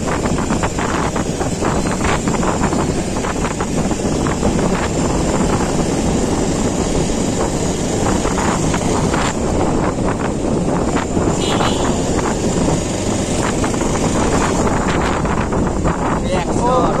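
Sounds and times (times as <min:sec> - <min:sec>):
motorcycle engine running: 0:00.0 - 0:16.3
wind rush on microphone: 0:00.0 - 0:17.0.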